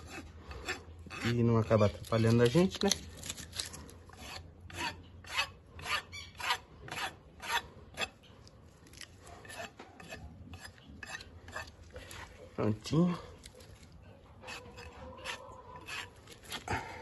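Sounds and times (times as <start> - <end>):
rasp scraping a hoof: 0.0 - 17.0.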